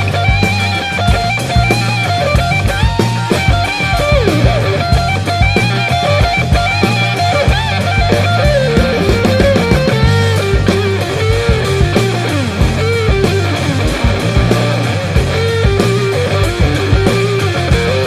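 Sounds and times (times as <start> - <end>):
lead electric guitar: 0.0 - 18.0
rock music: 0.0 - 18.0
steady drum beat: 0.0 - 18.0.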